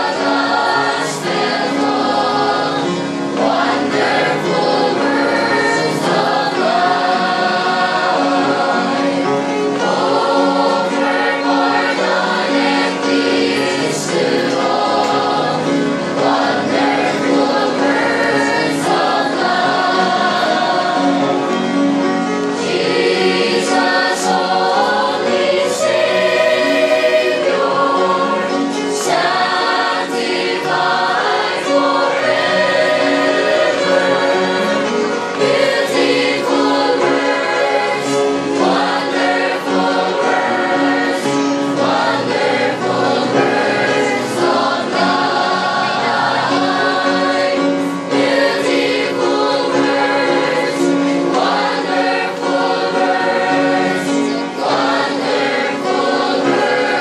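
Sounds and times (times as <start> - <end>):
choir singing a hymn: 0.0 - 57.0
upright piano: 0.0 - 57.0.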